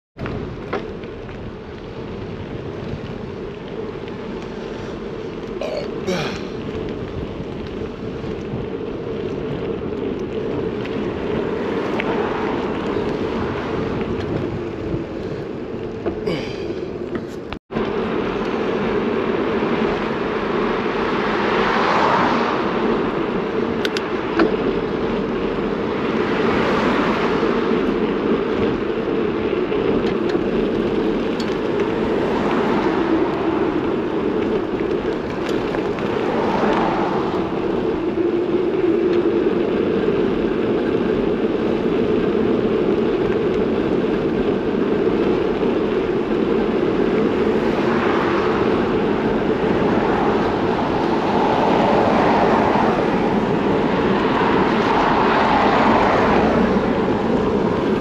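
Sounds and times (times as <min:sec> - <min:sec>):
road and wind noise: 0:00.2 - 0:58.0
vehicles passing: 0:00.2 - 0:58.0.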